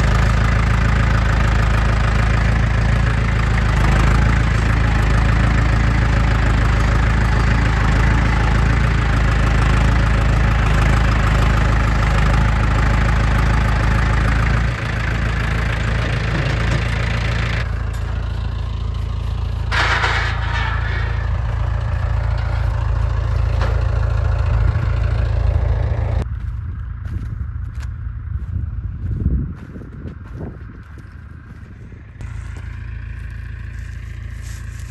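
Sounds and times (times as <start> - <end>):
tractor engine rumbling: 0.0 - 34.9.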